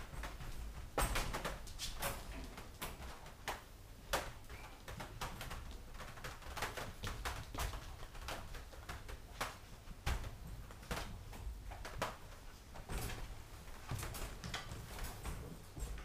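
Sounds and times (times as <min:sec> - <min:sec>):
wire crate clicks and rattles: 0:00.0 - 0:16.0.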